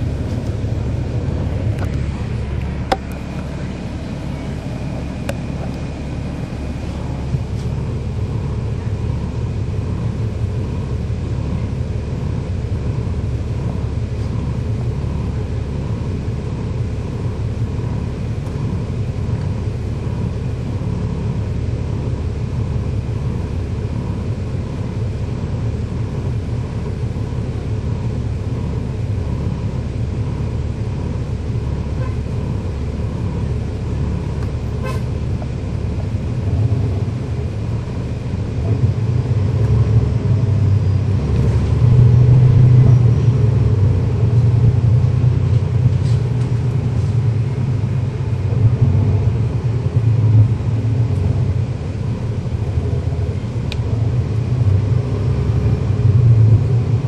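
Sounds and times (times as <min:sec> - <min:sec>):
bus diesel engine rumble: 0:00.0 - 0:57.0.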